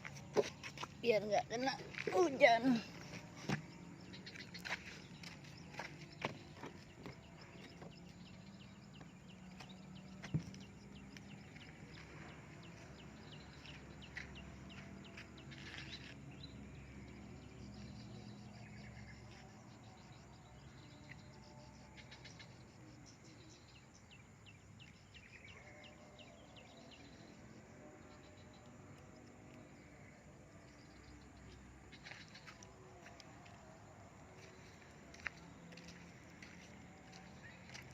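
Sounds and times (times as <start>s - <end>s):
insect chirps: 0.0s - 37.9s.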